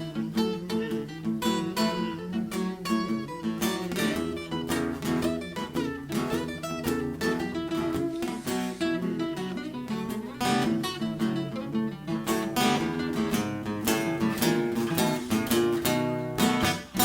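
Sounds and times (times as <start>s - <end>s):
acoustic blues guitar: 0.0s - 17.0s.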